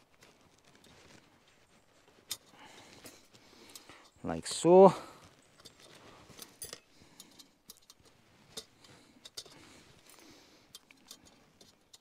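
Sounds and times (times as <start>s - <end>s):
metal rods clinking on mesh: 2.2s - 12.0s.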